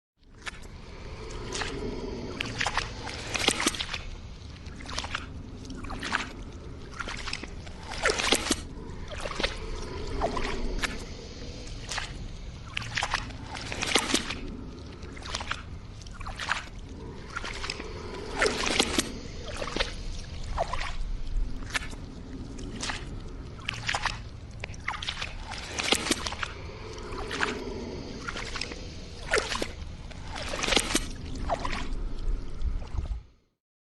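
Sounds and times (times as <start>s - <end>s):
wet squelches and sloshes: 0.2s - 33.6s.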